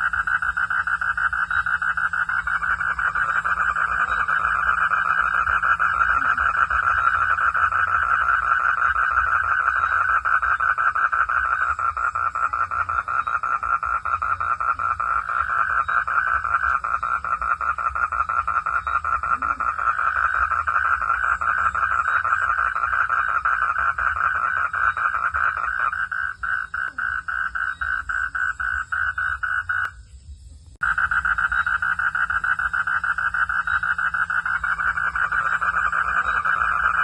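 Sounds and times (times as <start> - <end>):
frogs calling: 0.0 - 37.0.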